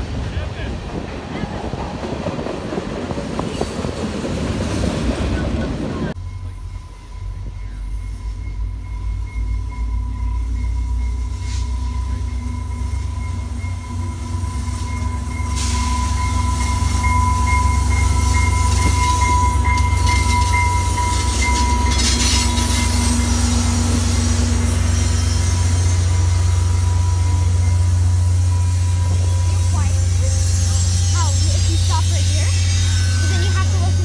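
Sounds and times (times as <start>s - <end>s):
diesel train passing: 0.0s - 34.0s
high squeal from train: 4.7s - 34.0s.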